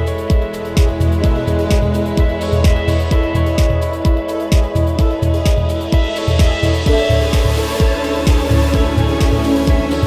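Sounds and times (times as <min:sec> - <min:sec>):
electronic music with kick drum: 0:00.0 - 0:10.0
sustained synth chords: 0:00.0 - 0:10.0.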